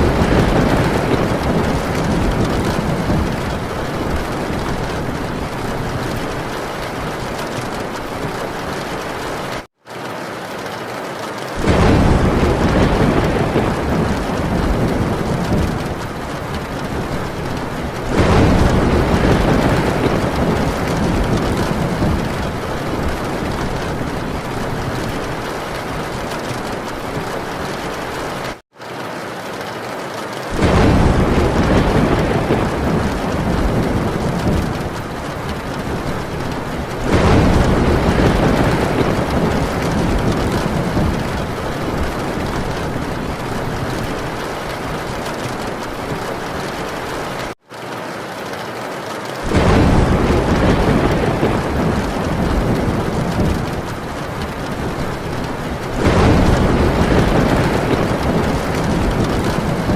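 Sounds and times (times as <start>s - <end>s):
thunder rumbling: 0.0s - 9.7s, 11.4s - 28.6s, 30.4s - 47.6s, 49.3s - 59.9s
heavy rain on a tin roof: 0.0s - 59.9s.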